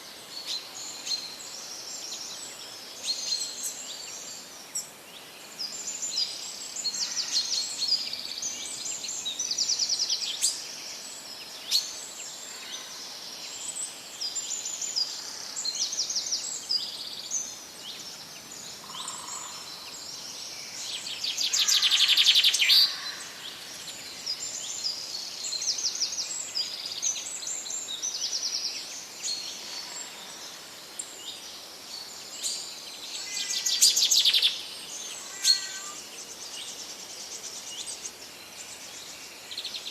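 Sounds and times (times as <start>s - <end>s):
songbirds chirping: 0.0s - 39.9s
steady hiss: 0.0s - 39.9s.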